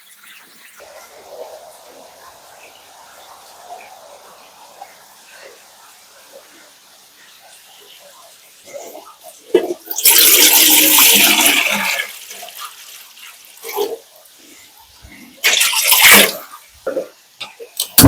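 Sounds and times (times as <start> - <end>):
water gushing: 0.0 - 18.0.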